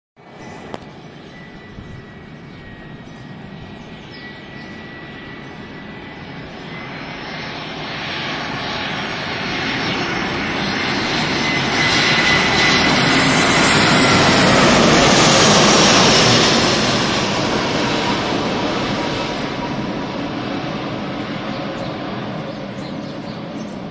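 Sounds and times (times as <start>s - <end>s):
jet airliner engine roar: 0.2s - 23.9s.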